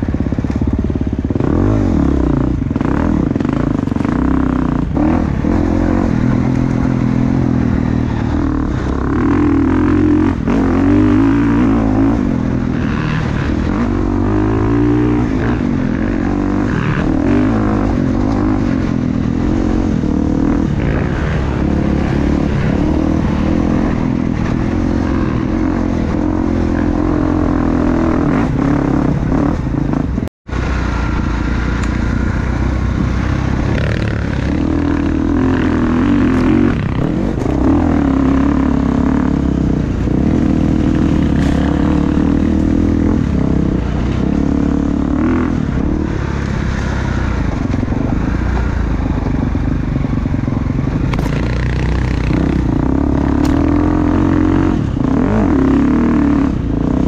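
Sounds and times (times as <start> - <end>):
dirt bike engine revving: 0.0 - 57.0
engine clatter: 0.0 - 57.0.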